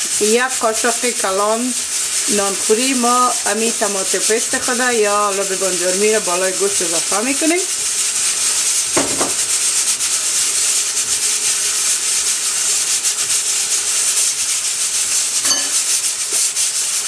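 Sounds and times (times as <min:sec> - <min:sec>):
meat sizzling in oil: 0:00.0 - 0:17.0
wooden spoon stirring and scraping: 0:00.0 - 0:17.0.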